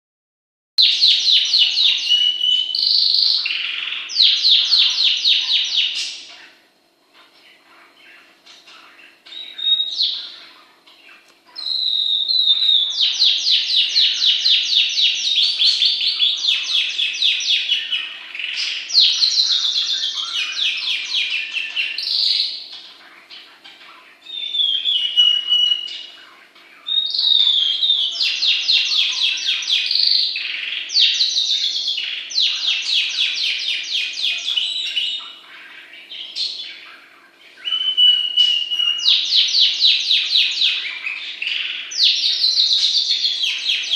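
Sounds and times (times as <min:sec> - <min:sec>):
bird singing trilled phrases: 0:00.8 - 0:43.9.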